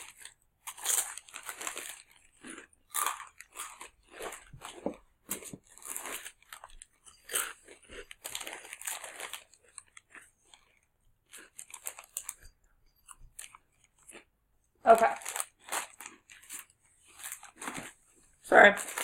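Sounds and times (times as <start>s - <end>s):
person chewing and crunching food: 0.0s - 19.0s.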